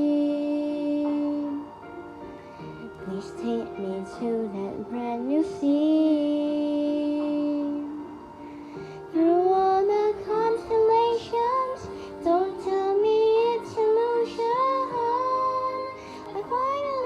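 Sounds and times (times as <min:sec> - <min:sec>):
girl singing: 0:00.0 - 0:01.8, 0:02.8 - 0:08.4, 0:09.1 - 0:17.0
backing track music: 0:00.0 - 0:17.0.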